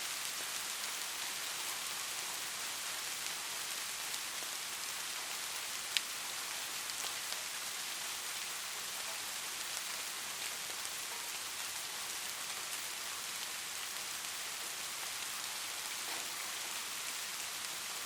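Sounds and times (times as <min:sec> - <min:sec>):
light rain hiss: 0:00.0 - 0:18.0.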